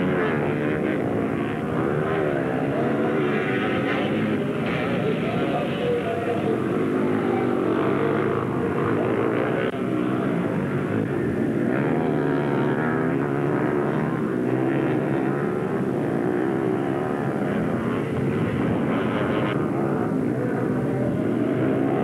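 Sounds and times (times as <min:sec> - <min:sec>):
atv engines racing: 0:00.0 - 0:22.0.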